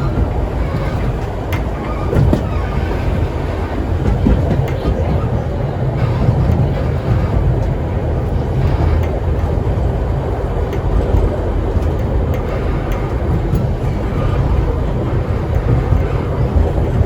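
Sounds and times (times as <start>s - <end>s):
carriages rumbling on track: 0.0s - 17.0s.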